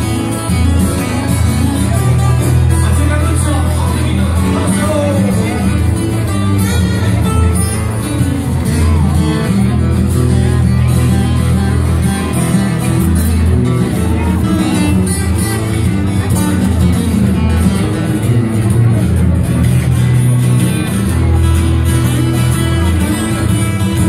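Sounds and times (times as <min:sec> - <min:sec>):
guitar music: 0:00.0 - 0:24.0
steady bass line: 0:00.0 - 0:24.0.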